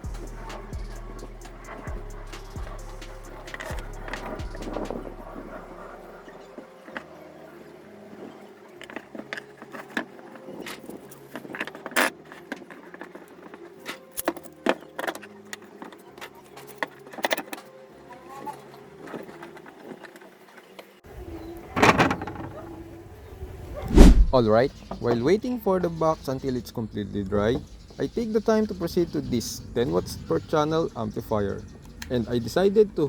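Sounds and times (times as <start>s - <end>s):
faint steady tones: 0.0s - 33.0s.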